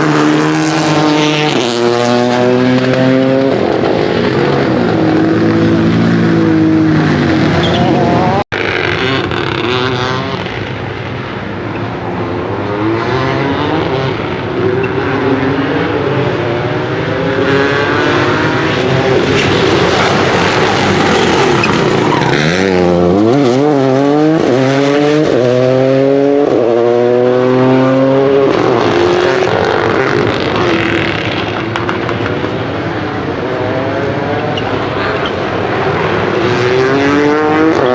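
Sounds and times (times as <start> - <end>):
rally car engine at full throttle: 0.0 - 37.9.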